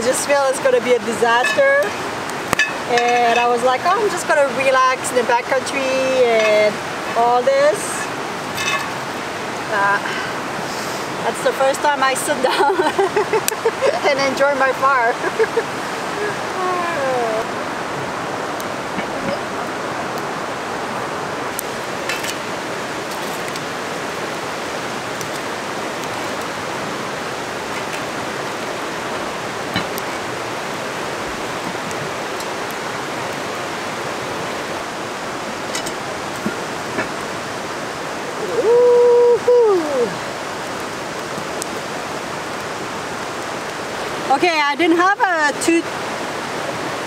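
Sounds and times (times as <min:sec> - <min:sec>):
rocky river rushing: 0:00.0 - 0:47.0.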